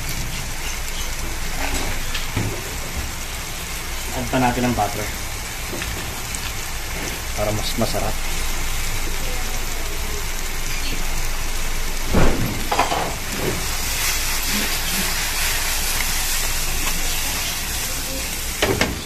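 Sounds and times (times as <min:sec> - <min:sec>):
masala sizzling in a frying pan: 0:00.0 - 0:19.0.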